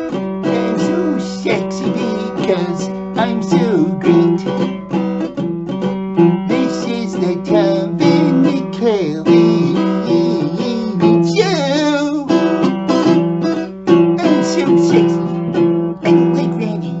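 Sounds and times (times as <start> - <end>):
person singing: 0.0 - 4.8, 6.5 - 17.0
acoustic guitar strumming: 0.0 - 17.0.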